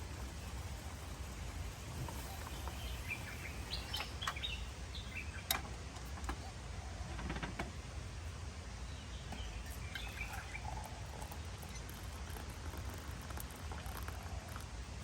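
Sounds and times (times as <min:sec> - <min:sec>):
small birds chirping: 0:00.0 - 0:07.1, 0:08.8 - 0:15.0.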